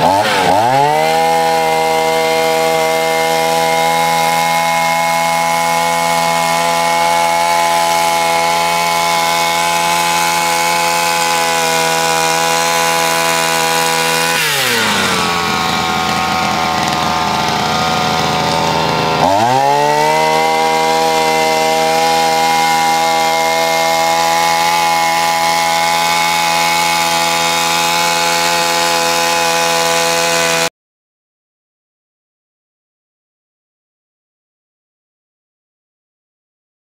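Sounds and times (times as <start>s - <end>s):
small two-stroke engine running: 0.0s - 30.7s.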